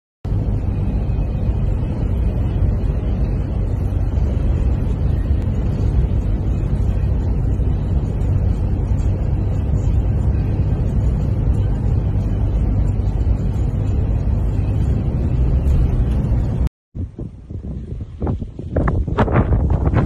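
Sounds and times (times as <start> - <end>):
engine and road noise in cabin: 0.2 - 20.0
wind buffeting car: 0.2 - 20.0.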